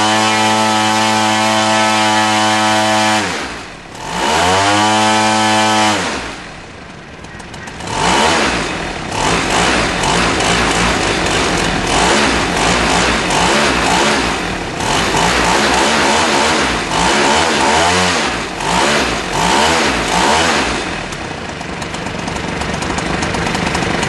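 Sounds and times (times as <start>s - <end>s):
model airplane engine revving: 0.0s - 6.6s, 7.2s - 24.0s.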